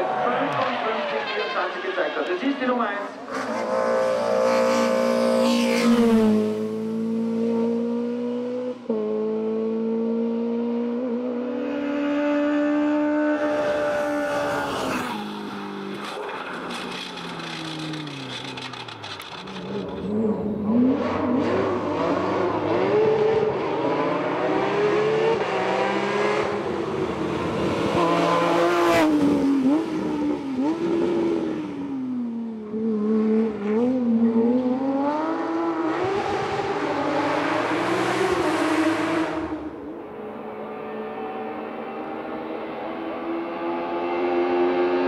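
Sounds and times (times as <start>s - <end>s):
race car engine at full throttle: 0.0s - 45.0s.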